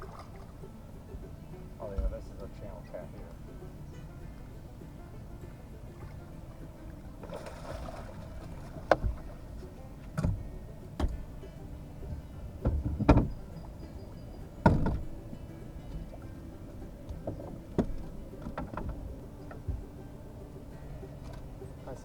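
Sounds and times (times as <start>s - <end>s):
knocks and thumps on a boat: 0.0s - 22.0s.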